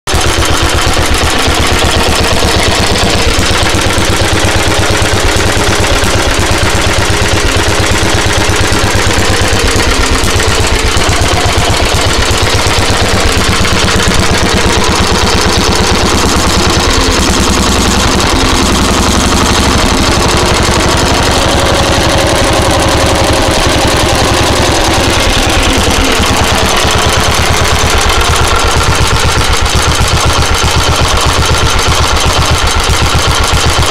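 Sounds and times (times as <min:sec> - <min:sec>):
stationary engine running: 0:00.0 - 0:33.9.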